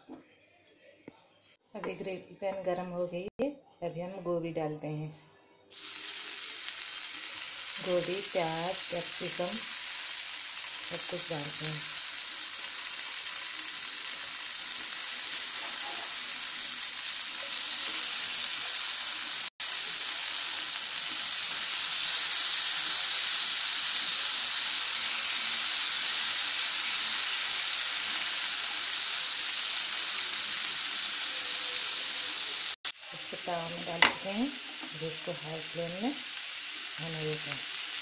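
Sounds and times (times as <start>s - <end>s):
vegetables sizzling in oil: 5.7s - 38.0s.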